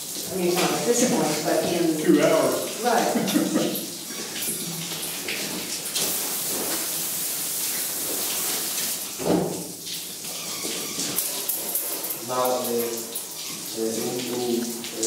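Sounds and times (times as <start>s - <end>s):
liquid running and splashing: 0.0s - 15.0s.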